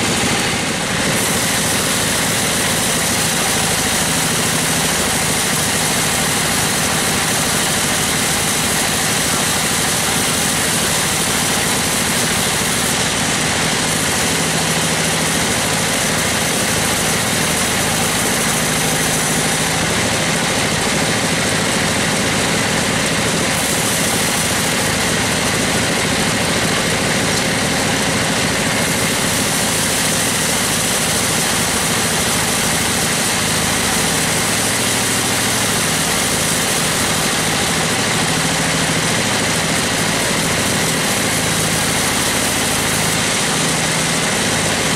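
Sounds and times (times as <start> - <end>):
band saw cutting log: 0.0 - 44.9.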